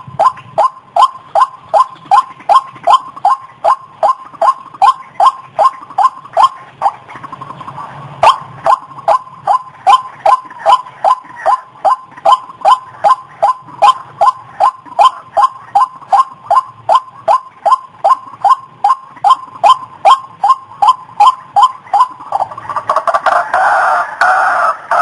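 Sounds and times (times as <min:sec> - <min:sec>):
waterhen calling repeated notes: 0:00.0 - 0:25.0.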